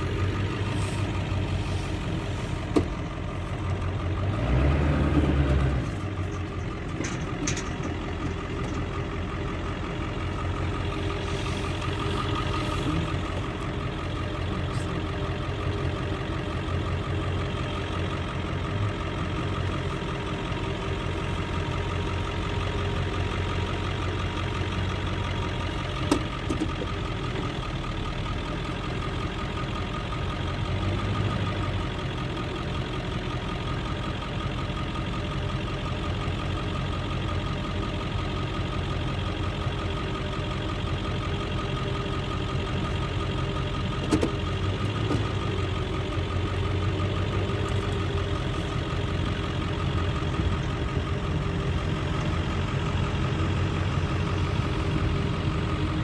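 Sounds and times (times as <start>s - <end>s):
harvest machinery engine running: 0.0s - 56.0s.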